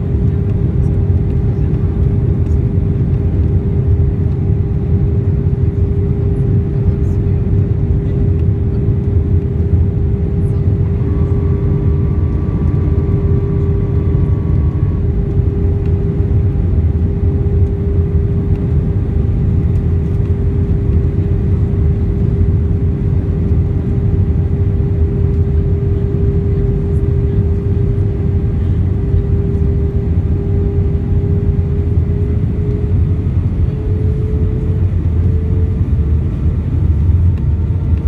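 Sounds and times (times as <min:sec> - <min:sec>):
airliner cabin engine rumble: 0:00.0 - 0:38.0.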